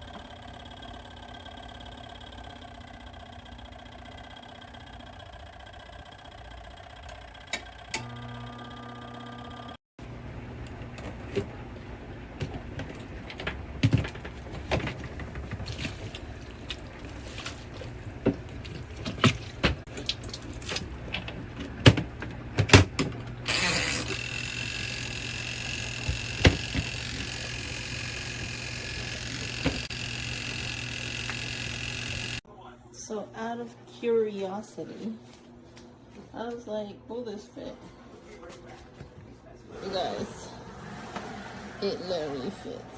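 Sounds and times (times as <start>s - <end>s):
washing machine motor humming: 0.0s - 32.4s, 39.7s - 42.9s.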